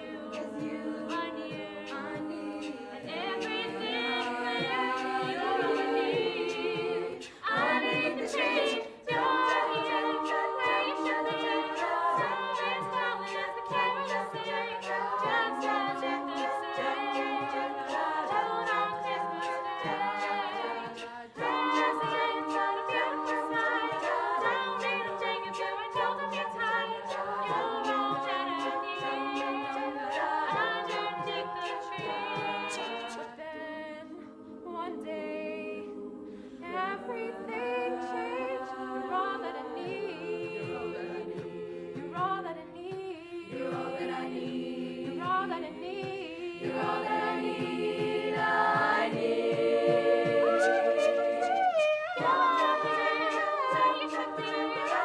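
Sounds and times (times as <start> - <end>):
a cappella group singing: 0.0 - 55.0.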